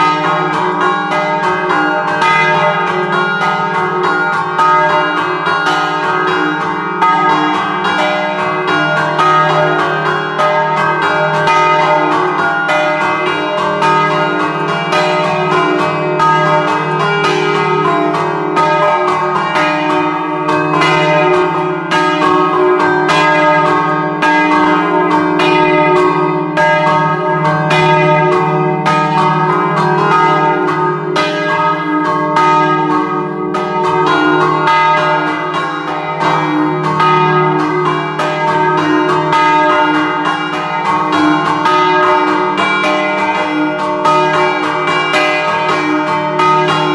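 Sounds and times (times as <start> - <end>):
church bells struck rapidly: 0.0 - 46.9.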